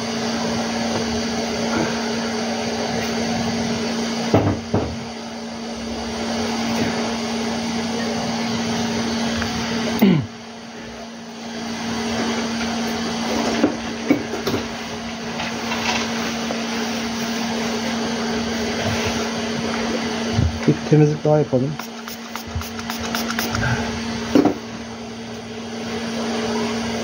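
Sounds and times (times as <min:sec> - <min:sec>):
hot-air blower whooshing: 0:00.0 - 0:27.0.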